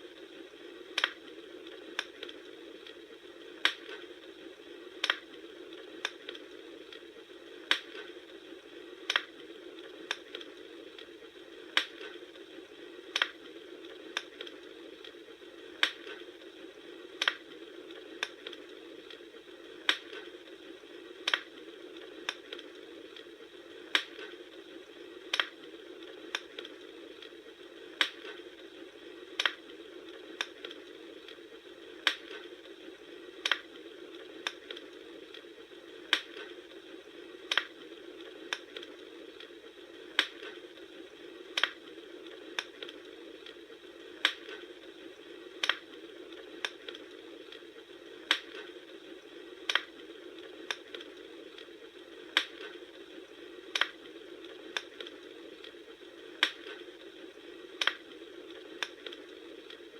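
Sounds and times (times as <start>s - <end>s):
campfire crackling and popping: 0.0s - 59.9s
low hiss: 0.0s - 59.9s.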